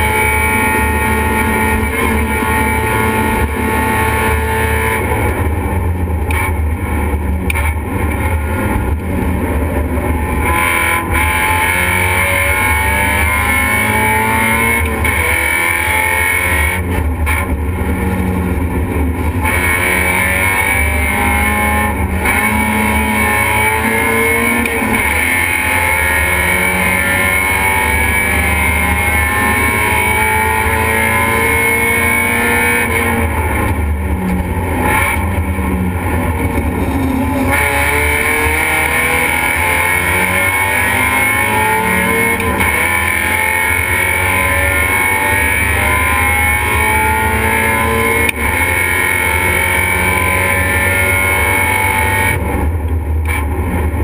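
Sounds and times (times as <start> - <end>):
drivetrain and road rumble: 0.0 - 54.0
race car engine revving: 0.0 - 54.0.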